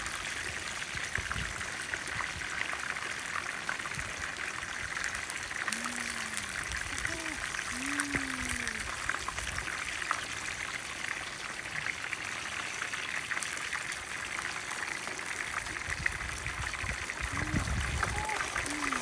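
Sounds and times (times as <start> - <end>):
chicken sizzling in a frying pan: 0.0 - 19.0.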